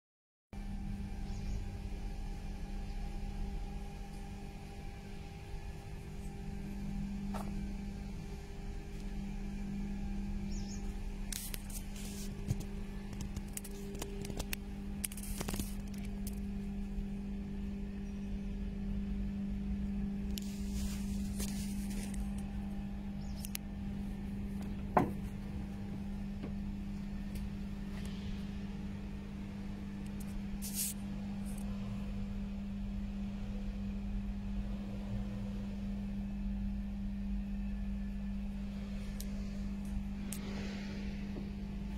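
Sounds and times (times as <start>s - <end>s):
low machine hum: 0.6s - 41.9s.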